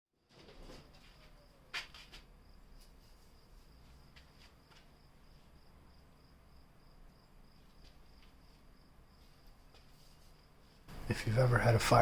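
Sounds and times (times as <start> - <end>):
cricket chirping: 0.2 - 12.0.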